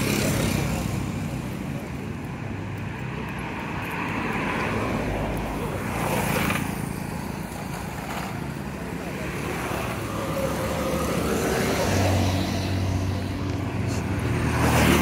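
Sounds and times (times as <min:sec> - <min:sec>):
motorcycle and car engines: 0:00.0 - 0:15.0.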